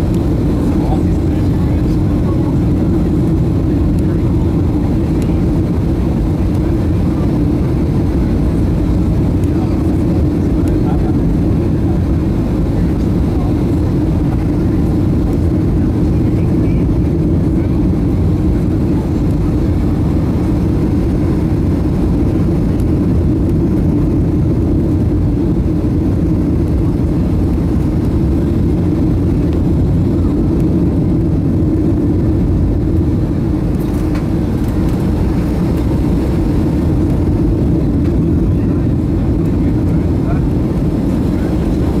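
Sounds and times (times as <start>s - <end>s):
airplane cabin rumble: 0.0s - 42.0s.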